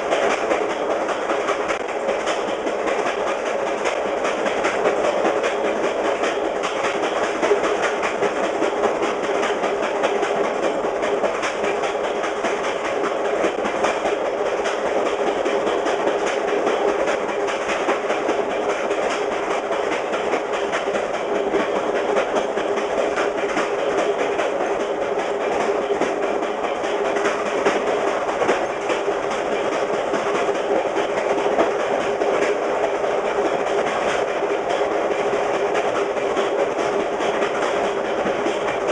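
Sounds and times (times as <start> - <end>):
train rumble and rush: 0.0 - 38.9
train wheels clicking over joints: 0.0 - 38.9.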